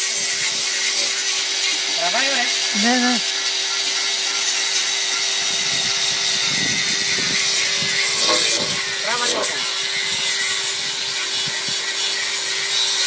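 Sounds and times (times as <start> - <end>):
angle grinder grinding metal: 0.0 - 13.0.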